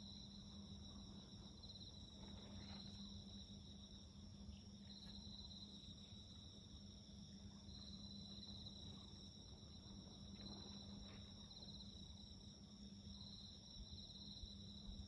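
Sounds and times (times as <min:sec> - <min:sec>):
crickets chirping: 0:00.0 - 0:15.0
high insect drone: 0:00.0 - 0:15.0.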